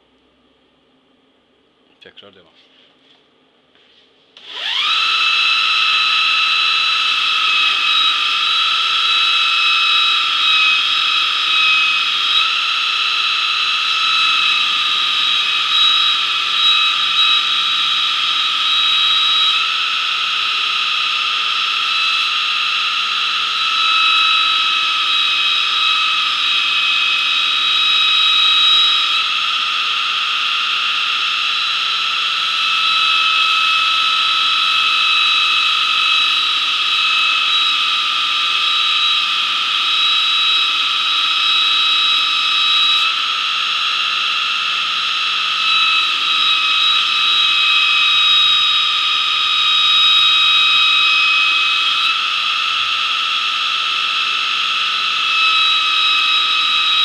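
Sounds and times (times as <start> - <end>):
belt grinder whining: 4.4 - 57.0.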